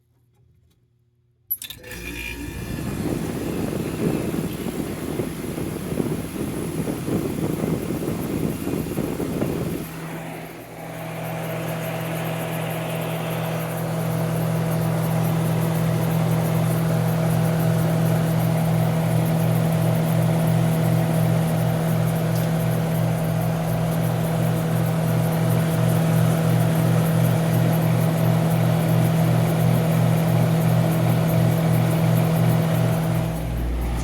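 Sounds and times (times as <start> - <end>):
compressor humming: 1.5 - 34.0.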